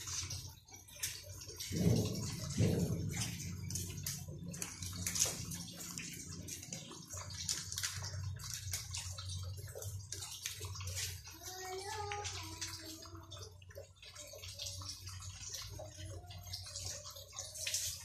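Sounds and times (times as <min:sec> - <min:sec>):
cats chewing: 0:00.9 - 0:17.6.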